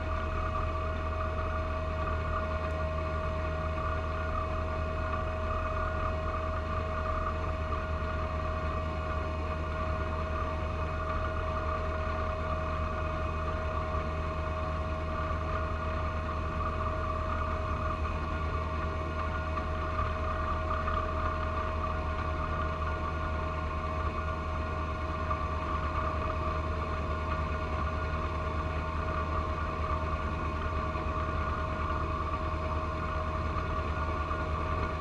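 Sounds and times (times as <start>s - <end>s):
tractor diesel engine drone: 0.0s - 35.0s.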